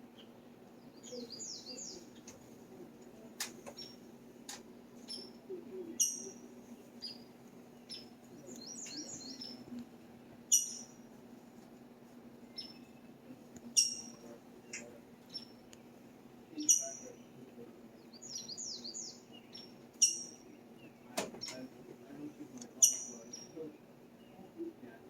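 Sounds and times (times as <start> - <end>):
faint low hum: 0.0 - 25.0
small birds chirping: 0.0 - 25.0.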